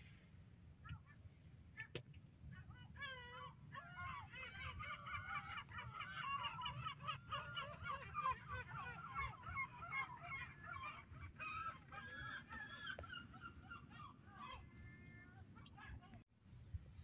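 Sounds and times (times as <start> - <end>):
flock of birds calling: 1.8 - 16.2.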